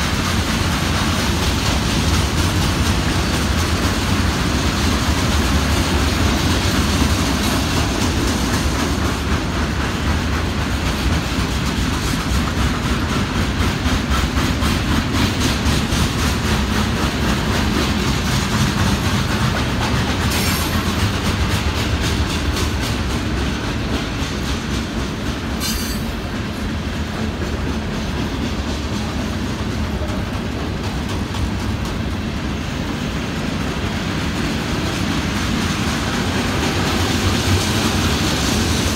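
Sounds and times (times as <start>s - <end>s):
freight train cars rumbling past: 0.0s - 38.9s.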